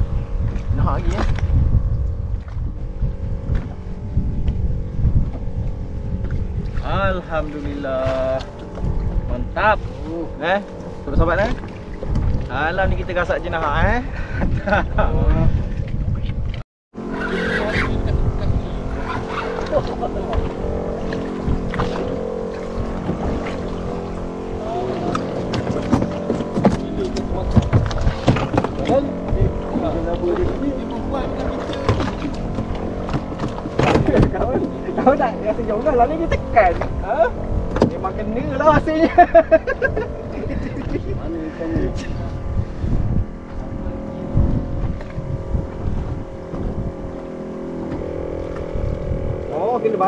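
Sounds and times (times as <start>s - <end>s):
small engine humming: 0.0s - 50.0s
wind buffeting microphone: 0.0s - 50.0s.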